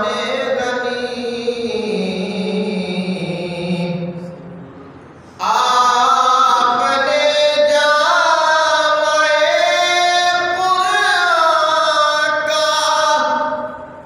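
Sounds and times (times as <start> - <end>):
man singing unaccompanied: 0.0 - 4.3, 5.4 - 13.8.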